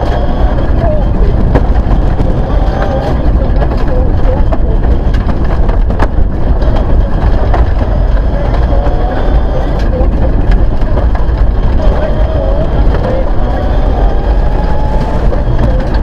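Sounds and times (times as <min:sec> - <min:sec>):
rally car engine at speed: 0:00.0 - 0:16.0.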